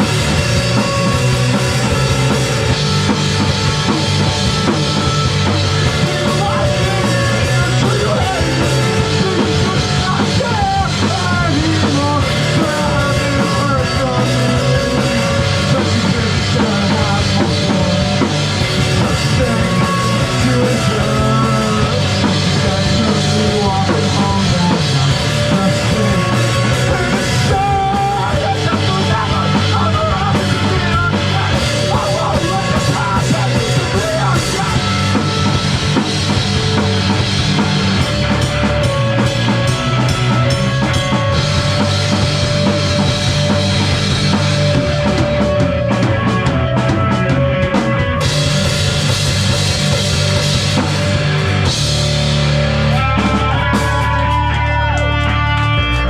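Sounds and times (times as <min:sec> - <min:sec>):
drum kit: 0:00.0 - 0:56.0
electric guitars: 0:00.0 - 0:56.0
rock band playing loudly: 0:00.0 - 0:56.0.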